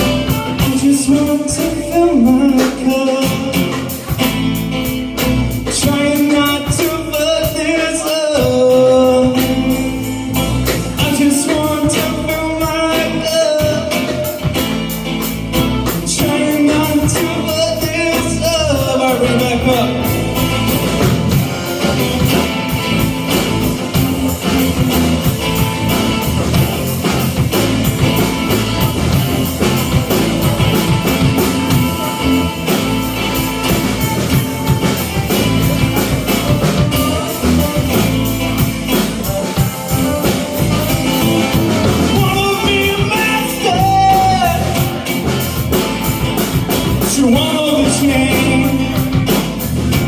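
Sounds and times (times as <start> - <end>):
rock band playing: 0.0 - 50.0.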